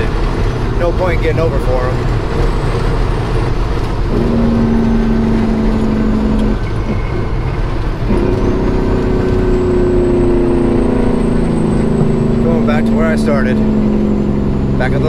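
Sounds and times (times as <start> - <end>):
road noise: 0.0 - 15.0
truck diesel engine drone: 0.0 - 15.0.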